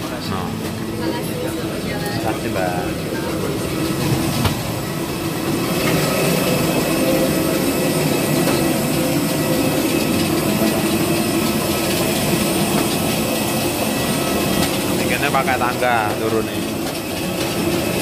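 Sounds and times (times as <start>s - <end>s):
jet turbine rumble and whine: 0.0s - 18.0s.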